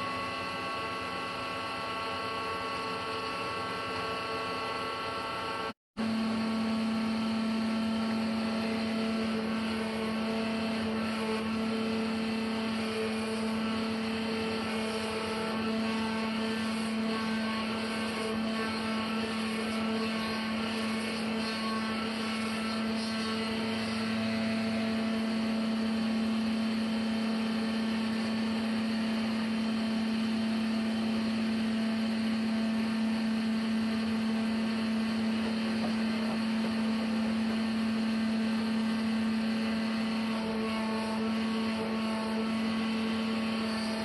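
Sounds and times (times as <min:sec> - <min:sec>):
sawmill machinery humming: 0:00.0 - 0:44.0.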